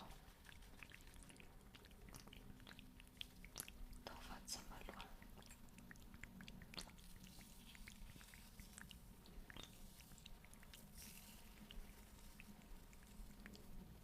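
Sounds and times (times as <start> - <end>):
small clicks and crackles: 0.0 - 14.0
soft hiss: 0.0 - 14.0.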